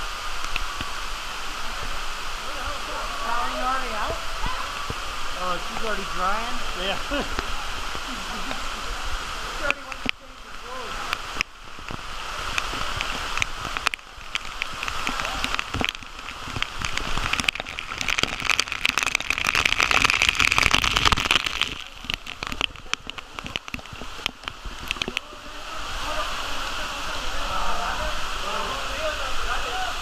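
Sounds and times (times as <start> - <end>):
rain pouring onto water: 0.0 - 30.0.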